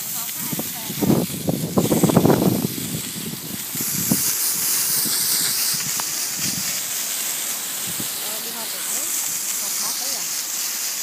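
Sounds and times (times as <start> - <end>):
water jet hissing on sand: 0.0 - 11.0.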